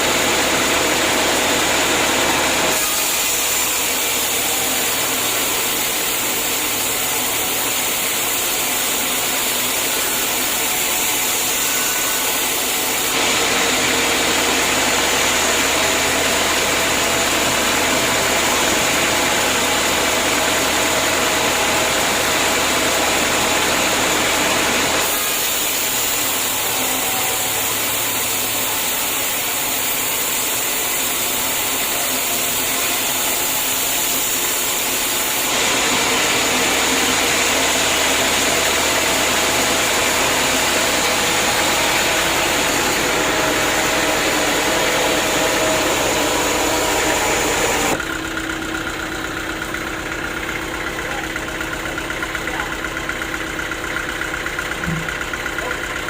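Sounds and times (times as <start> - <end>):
band sawmill sawing log: 0.0 - 56.0.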